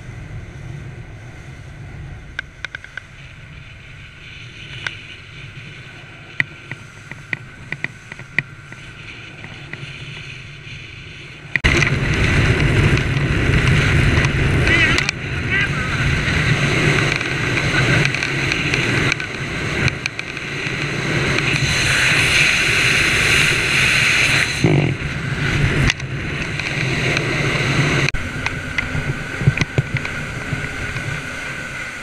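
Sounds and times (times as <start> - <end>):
boat engine drone: 0.0 - 32.0
water rushing against hull: 0.0 - 32.0.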